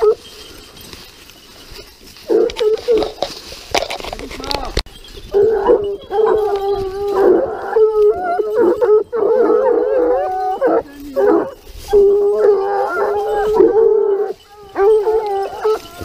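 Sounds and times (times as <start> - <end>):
hounds baying: 0.0 - 4.1, 5.0 - 16.0.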